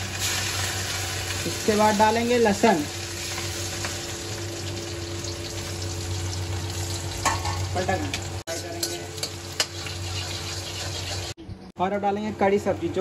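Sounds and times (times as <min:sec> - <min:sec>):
garlic sizzling in oil: 0:00.0 - 0:11.4.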